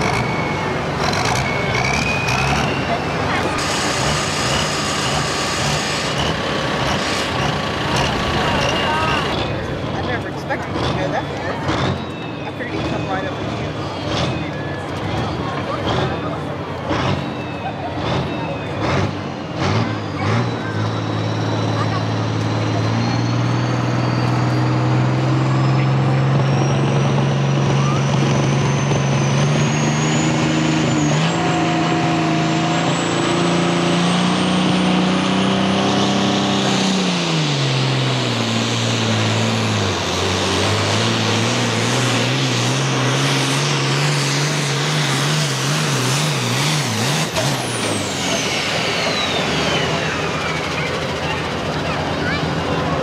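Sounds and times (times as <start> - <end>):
tractor diesel engine at full throttle: 0.0 - 53.0.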